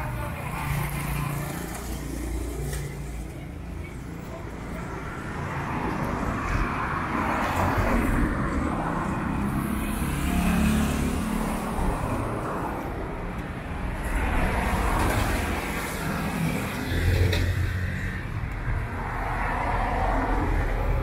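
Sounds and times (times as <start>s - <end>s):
cars passing by: 0.0s - 21.0s.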